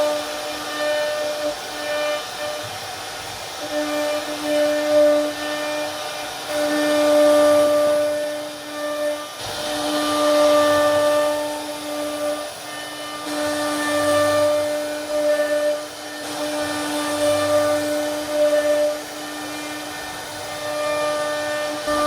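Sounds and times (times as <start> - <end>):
router spindle whine carving wood: 0.0 - 22.0.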